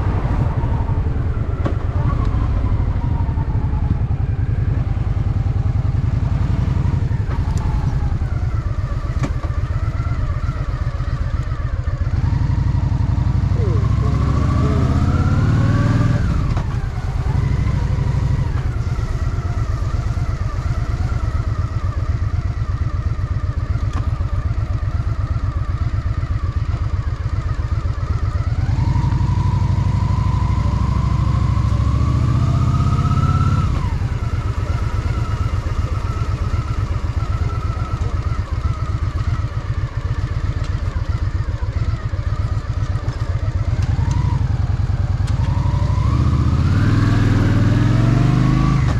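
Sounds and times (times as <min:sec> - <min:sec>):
motorcycle engine pulsing exhaust: 0:00.0 - 0:48.9.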